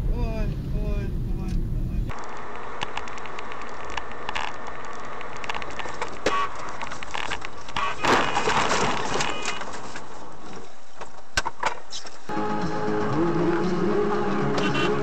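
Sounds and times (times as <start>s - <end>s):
in-car road noise: 0.0s - 15.0s.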